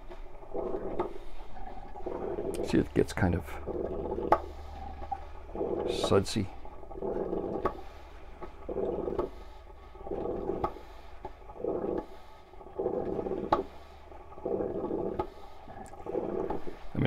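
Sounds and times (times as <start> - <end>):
percolator gurgling: 0.0 - 17.0.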